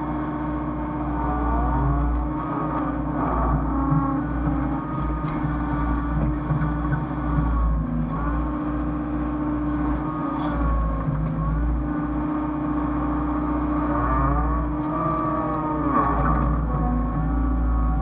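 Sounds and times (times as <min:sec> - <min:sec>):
excavator diesel engine running: 0:00.0 - 0:18.0
hydraulic whine: 0:00.0 - 0:18.0.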